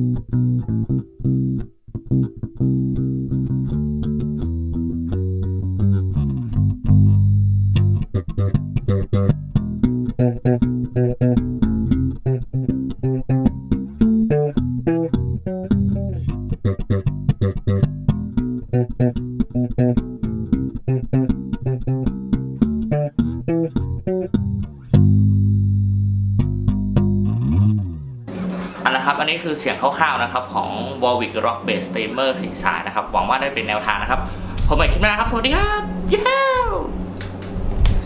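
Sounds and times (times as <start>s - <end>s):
electric bass plucked notes: 0.0s - 38.0s.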